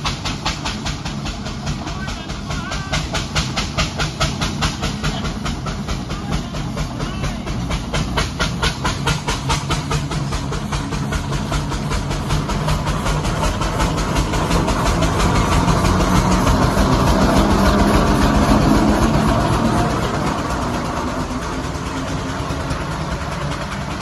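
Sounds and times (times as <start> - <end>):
steam engine exhaust chuffing: 0.0 - 24.0.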